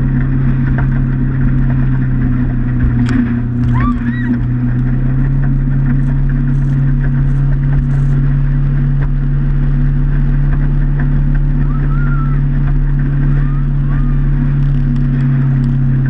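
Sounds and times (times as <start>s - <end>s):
motorboat engine drone: 0.0s - 16.0s
water noise: 0.0s - 16.0s.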